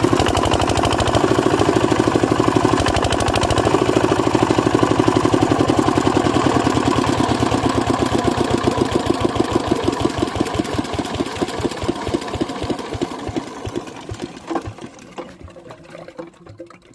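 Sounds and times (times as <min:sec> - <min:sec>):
diesel engine running down: 0:00.0 - 0:15.0.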